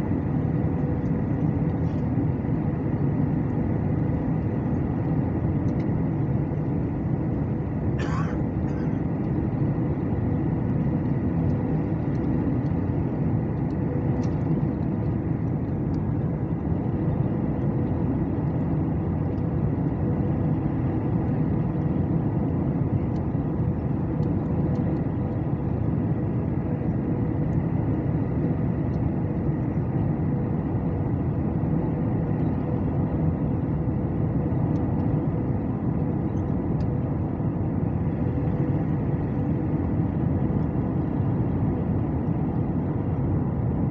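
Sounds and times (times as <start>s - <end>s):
cabin engine drone: 0.0s - 43.9s
constant hum: 0.0s - 43.9s.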